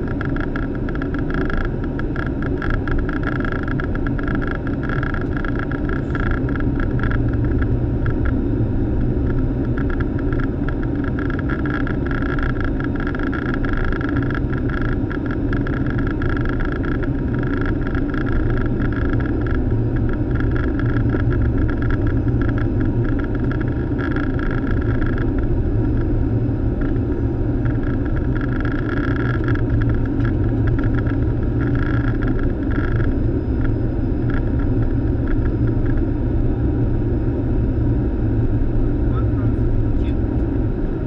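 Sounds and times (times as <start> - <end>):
deep engine drone: 0.0 - 41.0.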